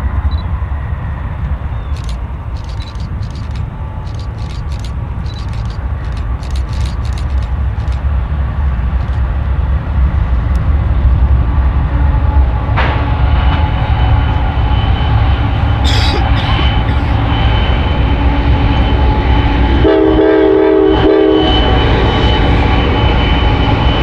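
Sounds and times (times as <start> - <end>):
diesel locomotive engine rumble: 0.0 - 24.0.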